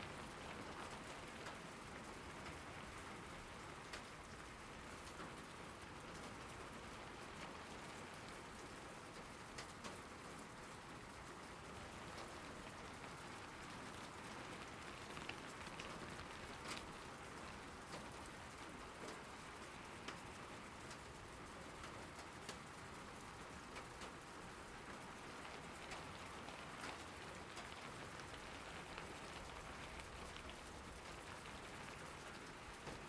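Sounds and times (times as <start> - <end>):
sharp taps of raindrops: 0.0 - 33.0
steady rain falling: 0.0 - 33.0.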